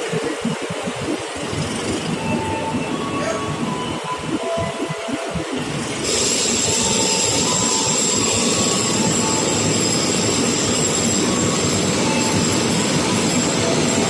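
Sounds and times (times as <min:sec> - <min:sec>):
thin high whine: 0:00.0 - 0:14.0
train rushing rumble: 0:00.0 - 0:14.0.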